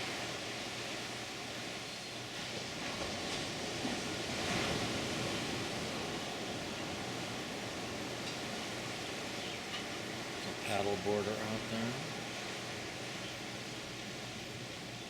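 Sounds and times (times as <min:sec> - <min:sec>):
ocean surf breaking: 0:02.4 - 0:14.8.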